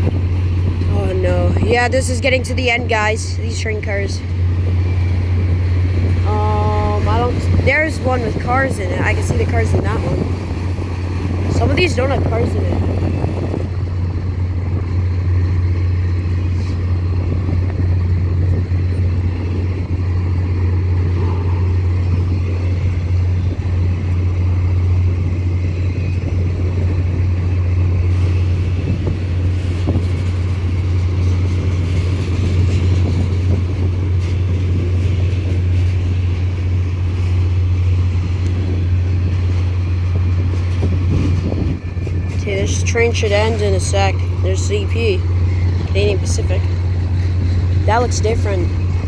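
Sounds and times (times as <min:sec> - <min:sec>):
freight train cars rumbling: 0:00.0 - 0:49.0.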